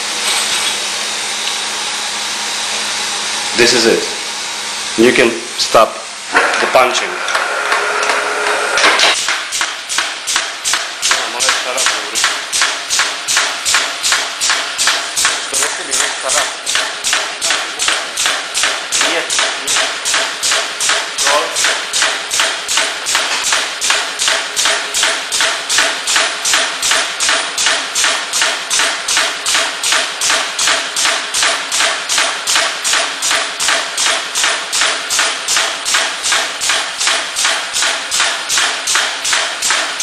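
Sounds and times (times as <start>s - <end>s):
punching press striking steadily: 6.3s - 40.0s.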